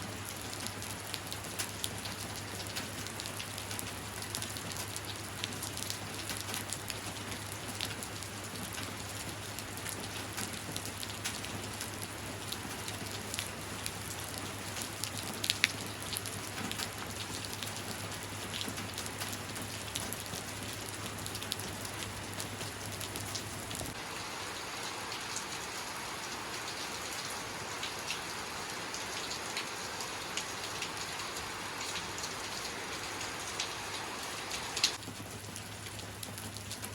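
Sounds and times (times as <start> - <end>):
rain drops ticking on surface: 0.0 - 36.9.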